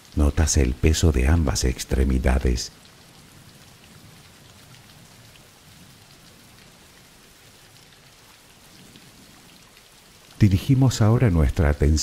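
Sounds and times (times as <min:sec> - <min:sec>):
faint scattered raindrops: 0:00.0 - 0:12.0
steady rainfall hiss: 0:00.0 - 0:12.0.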